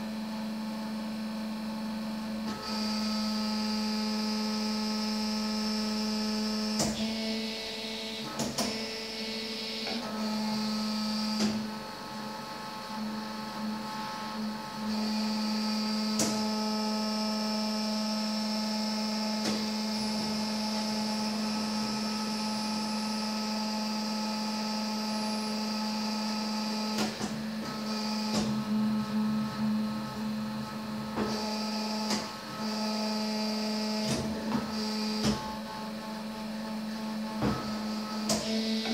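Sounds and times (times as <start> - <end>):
machine humming: 0.0 - 38.9.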